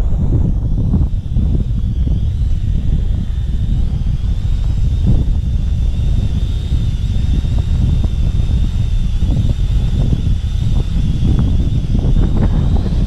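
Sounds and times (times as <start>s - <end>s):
drone propellers whining: 0.0s - 13.0s
wind buffeting microphone: 0.0s - 13.0s.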